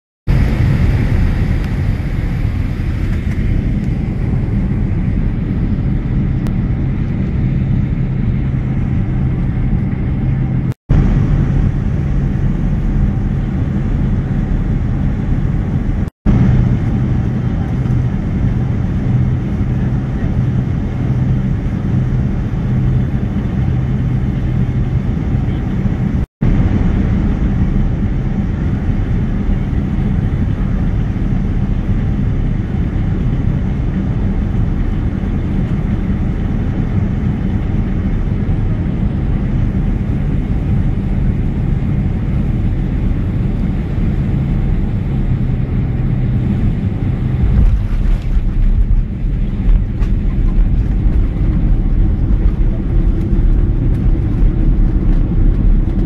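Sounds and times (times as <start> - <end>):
jet engine and airflow rush: 0.3 - 56.0
wheels rumbling on runway: 0.3 - 56.0.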